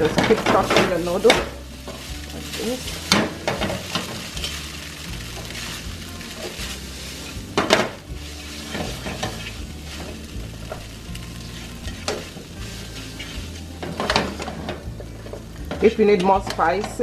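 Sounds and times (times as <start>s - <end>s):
noodles sizzling in a pan: 0.0s - 17.0s
utensil scraping a pan: 0.0s - 17.0s.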